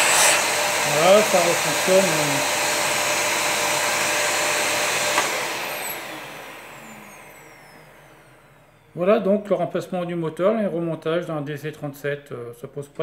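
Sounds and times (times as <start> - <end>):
vacuum cleaner whine: 0.0 - 13.0.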